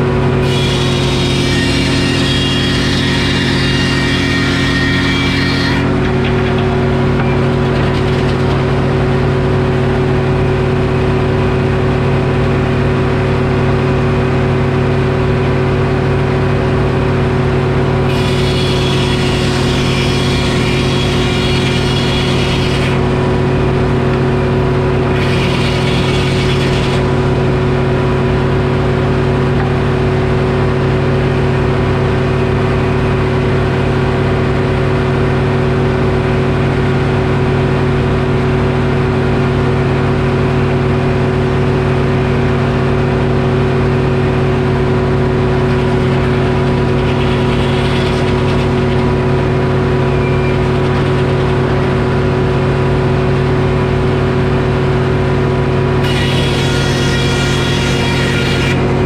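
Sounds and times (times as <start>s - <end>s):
sawmill diesel engine running: 0.0s - 59.0s.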